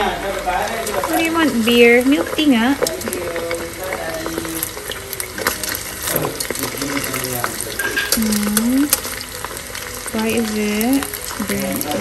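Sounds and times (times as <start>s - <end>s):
fishballs sizzling in hot oil: 0.0s - 12.0s.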